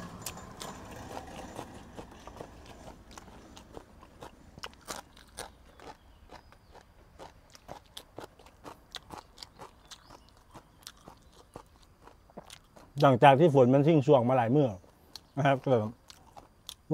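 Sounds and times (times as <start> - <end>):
person chewing crunchy vegetables: 0.0 - 13.2, 14.8 - 16.9.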